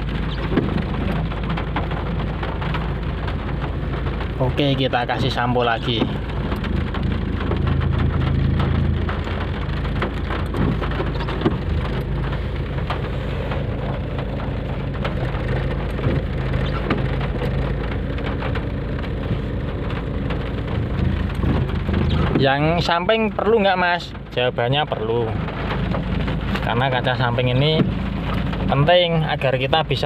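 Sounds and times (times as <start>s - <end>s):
heavy rain on car roof: 0.0s - 30.0s.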